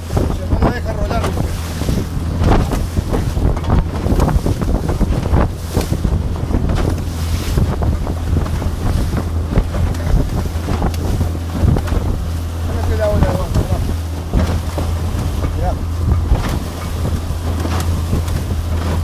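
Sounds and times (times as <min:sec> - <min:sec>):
hull slapping waves: 0:00.0 - 0:19.0
low motor hum: 0:00.0 - 0:19.0
wind buffeting microphone: 0:00.0 - 0:19.0.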